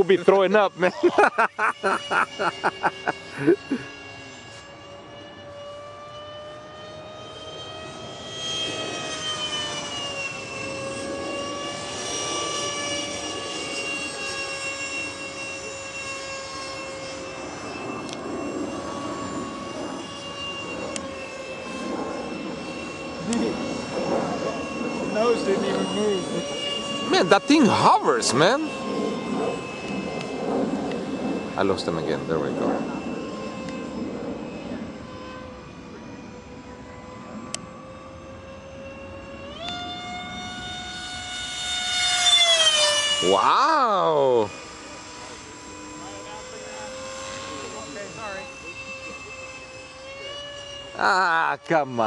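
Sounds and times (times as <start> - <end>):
electric ducted fans whining: 0.0 - 52.0.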